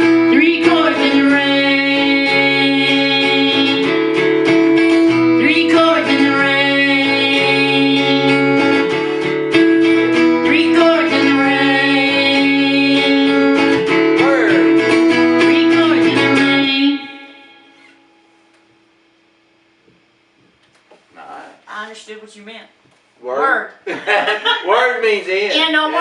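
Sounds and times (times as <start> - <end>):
guitar strumming chords: 0.0 - 20.6, 25.5 - 26.0.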